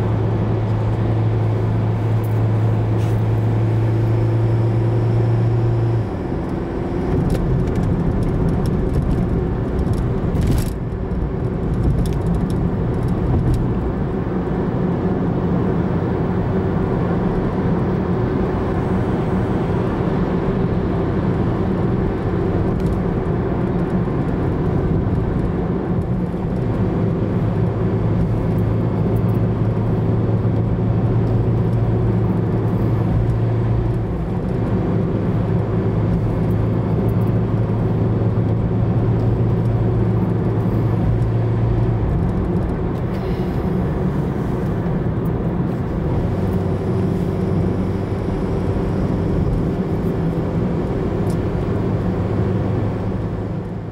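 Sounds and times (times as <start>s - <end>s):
tyre and engine drone: 0.0s - 53.9s.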